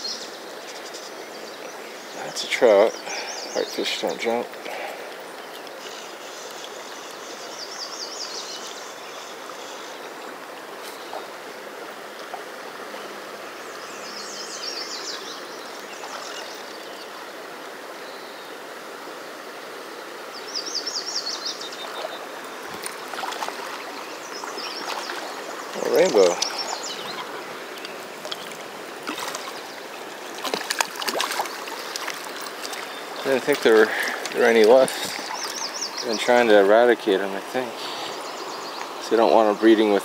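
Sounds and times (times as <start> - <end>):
river current rushing: 0.0 - 40.0.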